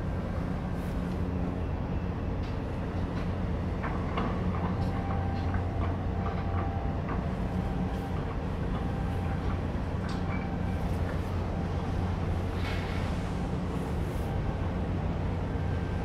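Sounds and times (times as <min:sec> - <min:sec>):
ship engine drone: 0:00.0 - 0:16.0.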